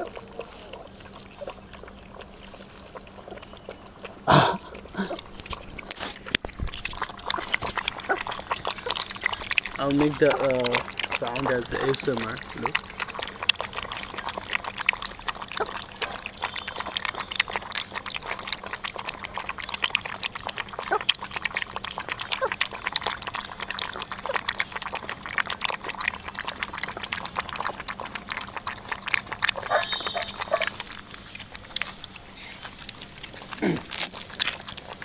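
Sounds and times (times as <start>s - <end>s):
dogs lapping milk: 0.0s - 35.0s.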